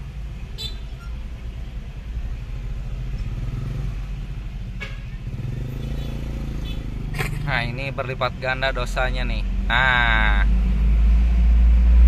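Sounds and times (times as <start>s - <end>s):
motorcycles and cars traffic: 0.0s - 12.0s.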